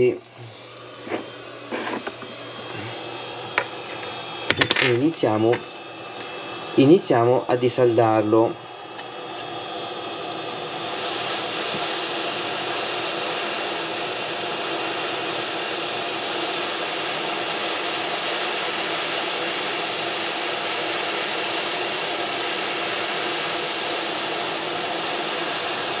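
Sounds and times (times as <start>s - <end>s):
hot air blower hissing: 0.0s - 26.0s.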